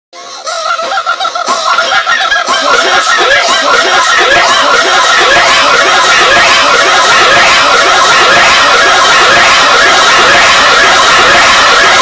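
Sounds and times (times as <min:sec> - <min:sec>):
high-pitched cartoon laughing: 0:00.2 - 0:12.0.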